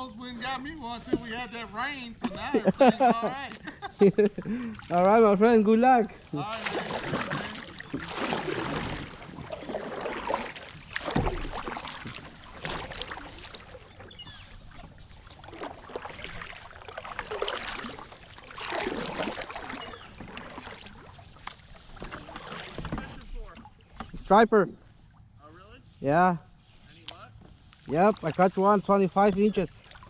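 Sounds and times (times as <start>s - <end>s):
paddle splashing in water: 2.2s - 5.3s, 6.1s - 25.3s, 26.6s - 30.0s.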